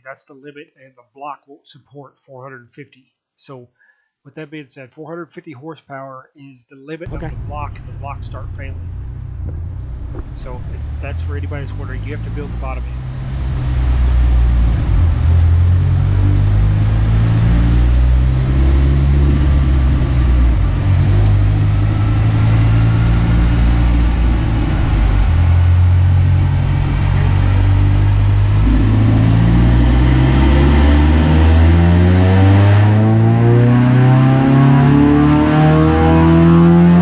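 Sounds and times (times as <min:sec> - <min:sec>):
turbocharged car engine revving: 0:07.1 - 0:37.0.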